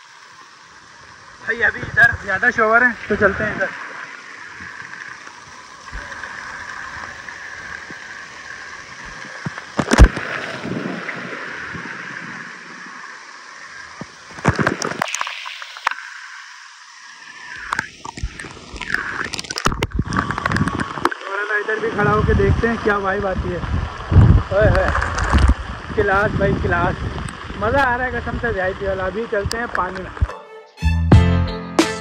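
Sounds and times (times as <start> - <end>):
water spraying and gurgling: 0.0 - 30.3.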